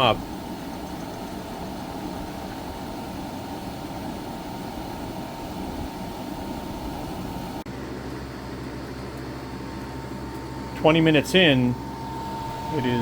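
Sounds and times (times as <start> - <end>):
air conditioner fan rushing air: 0.0 - 13.0.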